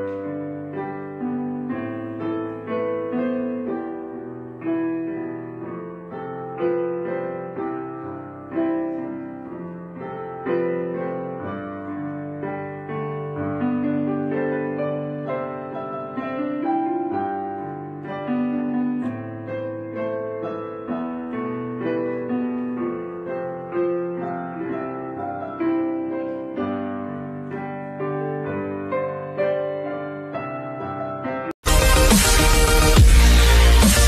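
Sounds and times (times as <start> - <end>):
slow piano music: 0.0 - 34.0.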